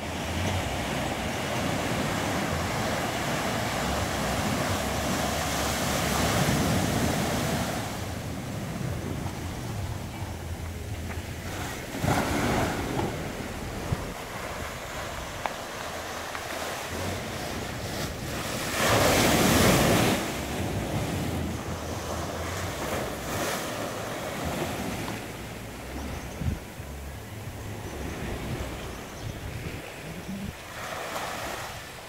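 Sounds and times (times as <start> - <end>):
sea waves washing up beach: 0.0 - 32.0
wind rumbling on microphone: 0.0 - 32.0.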